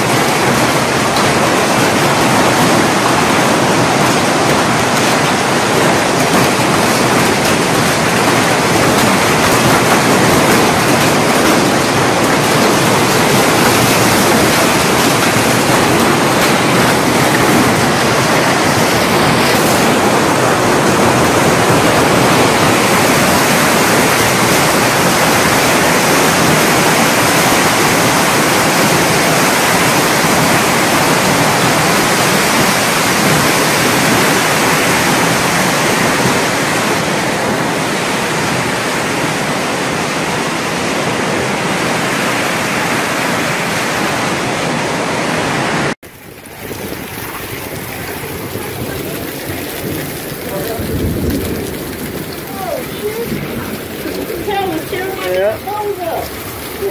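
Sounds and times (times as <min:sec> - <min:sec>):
hail and wind rushing: 0:00.0 - 0:56.9
heavy rain: 0:00.0 - 0:56.9.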